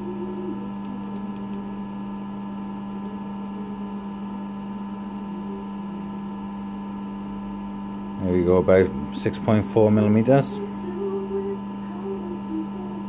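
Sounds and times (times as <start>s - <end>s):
machinery electrical hum: 0.0s - 13.0s.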